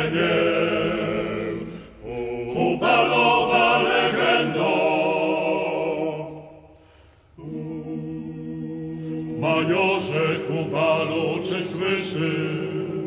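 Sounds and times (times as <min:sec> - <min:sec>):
male choir singing in harmony: 0:00.0 - 0:06.8, 0:07.4 - 0:13.0.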